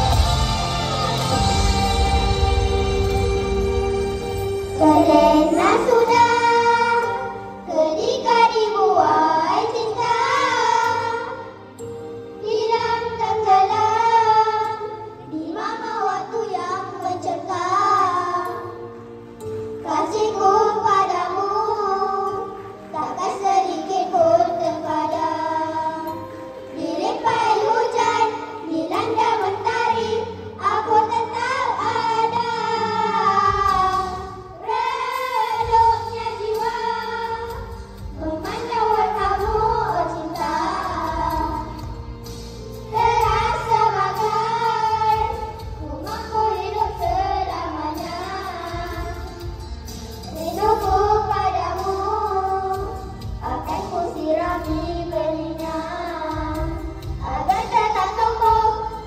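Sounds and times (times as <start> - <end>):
backing music: 0.0 - 59.0
children singing into microphones: 0.0 - 59.0.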